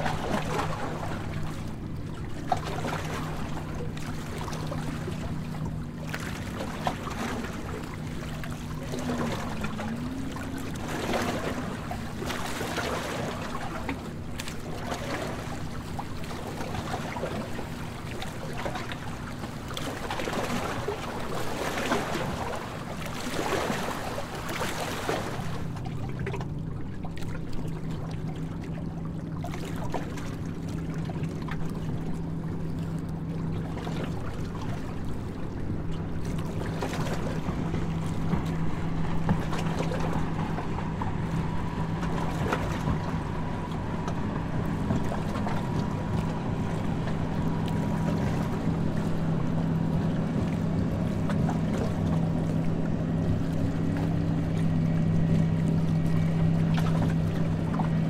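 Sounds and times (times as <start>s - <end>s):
boat engine droning: 0.0s - 58.0s
water noise: 0.0s - 58.0s
wind: 0.0s - 58.0s.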